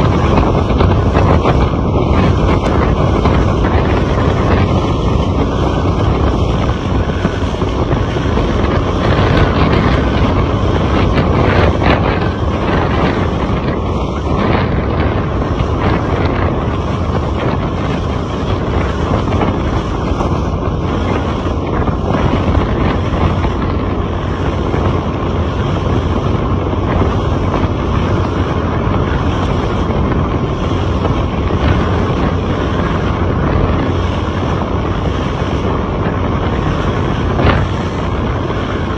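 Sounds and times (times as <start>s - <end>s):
vehicle running noise: 0.0s - 38.9s
wind buffeting microphone: 0.0s - 38.9s.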